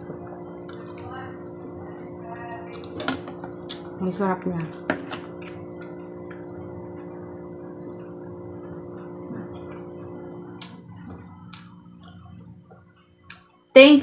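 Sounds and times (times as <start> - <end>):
low hum: 0.0 - 13.7.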